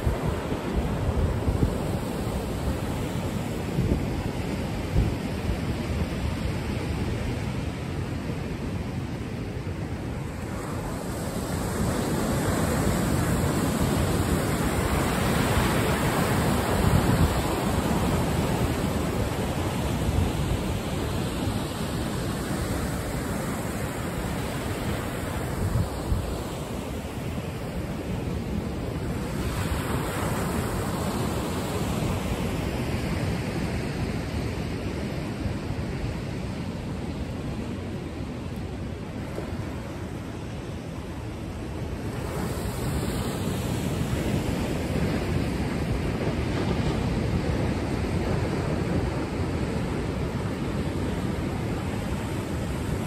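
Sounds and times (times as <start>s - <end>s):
ocean waves breaking: 0.0s - 53.0s
wind rumbling on microphone: 0.0s - 53.0s.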